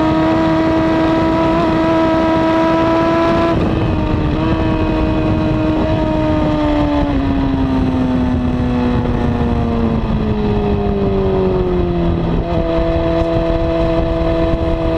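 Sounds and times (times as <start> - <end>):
steady rushing noise: 0.0 - 14.9.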